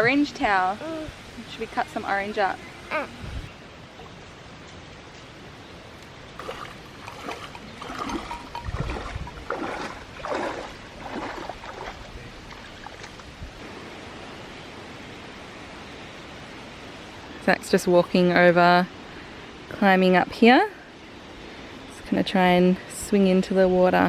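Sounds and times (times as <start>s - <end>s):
creek water running: 0.0s - 24.0s.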